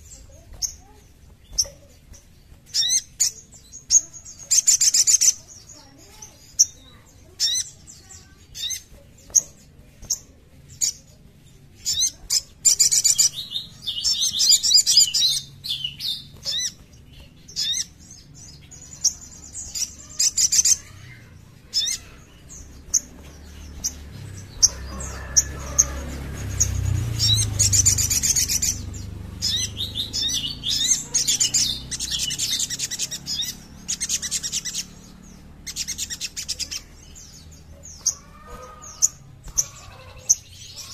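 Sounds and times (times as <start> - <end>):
bird twittering trills and chirps: 0.0 - 40.9.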